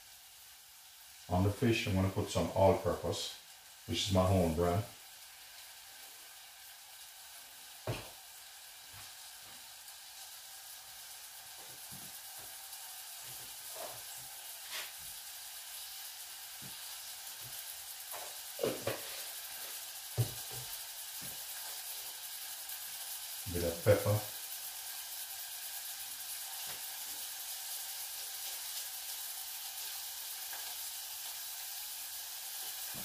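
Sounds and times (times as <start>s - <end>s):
oil sizzling in a pan: 0.0s - 33.0s.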